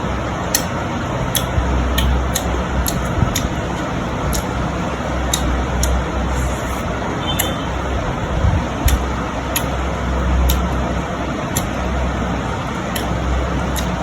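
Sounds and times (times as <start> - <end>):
steady low rumble: 0.0 - 14.0
mouth chewing wet clicks: 0.4 - 7.8, 8.8 - 14.0.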